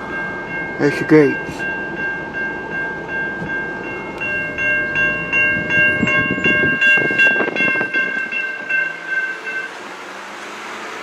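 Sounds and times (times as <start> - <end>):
freight train rumble and clatter: 0.0 - 11.0
railroad crossing bell ringing: 0.0 - 11.0.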